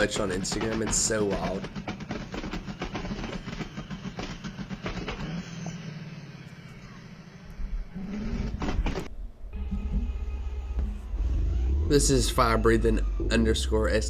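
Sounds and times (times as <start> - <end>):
car engine revving: 0.0 - 14.0
exhaust popping and crackling: 0.0 - 14.0.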